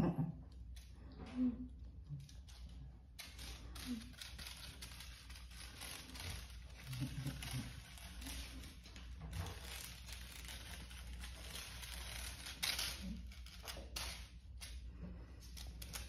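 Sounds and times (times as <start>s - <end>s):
rustling and crinkling: 0.7s - 16.0s.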